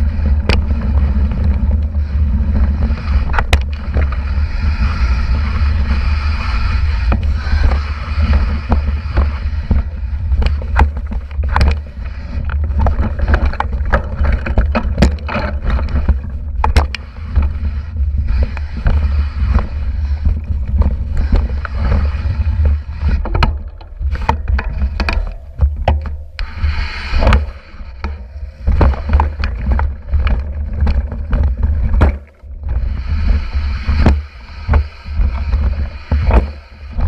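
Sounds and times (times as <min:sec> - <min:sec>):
bike rumble and wind on microphone: 0:00.0 - 0:37.0.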